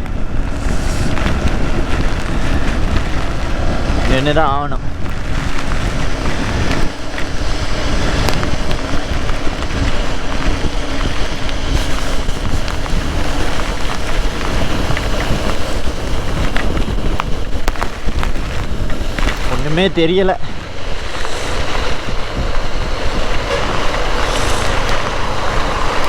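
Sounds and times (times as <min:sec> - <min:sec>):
heavy rain and wind on microphone: 0:00.0 - 0:26.0
raindrops ticking on microphone: 0:00.0 - 0:26.0.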